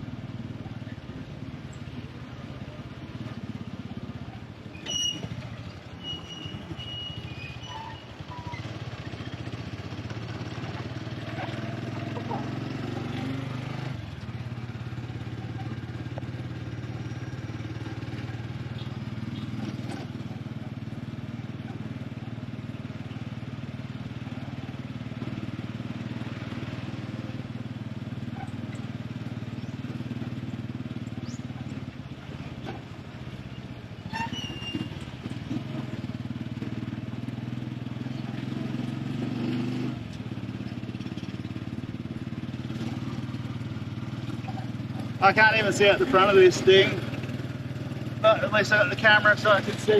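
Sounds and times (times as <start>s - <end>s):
road noise: 0.0s - 49.9s
small motorcycle engine running: 0.0s - 49.9s.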